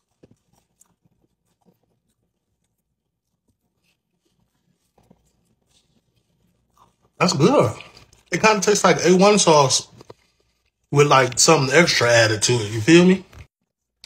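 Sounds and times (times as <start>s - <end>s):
person chewing quietly: 0.0s - 11.5s.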